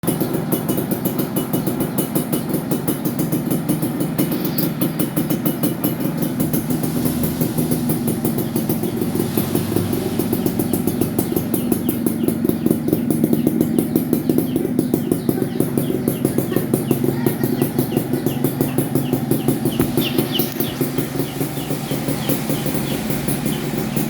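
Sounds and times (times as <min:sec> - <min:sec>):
two-stroke engine idling: 0:00.0 - 0:24.0.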